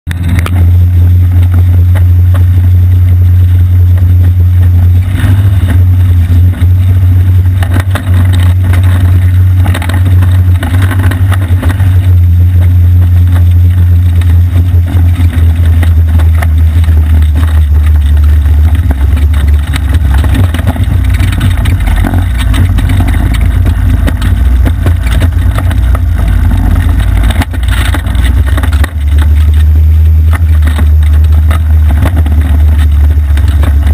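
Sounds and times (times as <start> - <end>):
go-kart engine running: 0.0 - 33.9.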